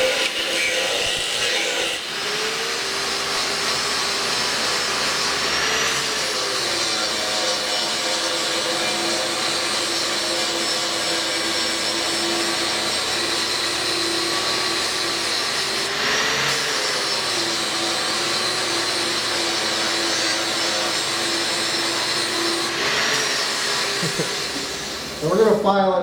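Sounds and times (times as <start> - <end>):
angle grinder grinding metal: 0.0 - 26.0.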